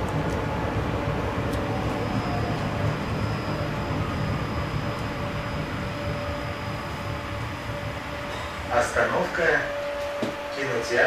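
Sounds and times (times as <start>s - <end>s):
tram wheels rumbling: 0.0s - 11.0s
thin high whine: 0.5s - 11.0s.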